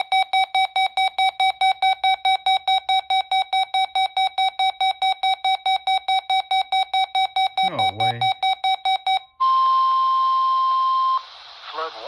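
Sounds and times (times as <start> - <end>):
rapid shrill alarm beeps: 0.0 - 11.2.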